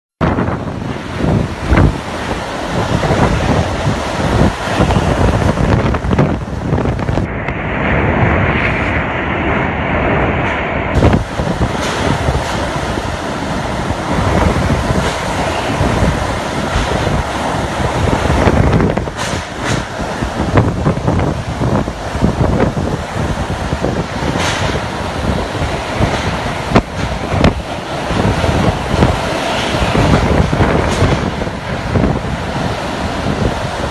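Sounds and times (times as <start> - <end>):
strong wind gusting: 0.2 - 33.9.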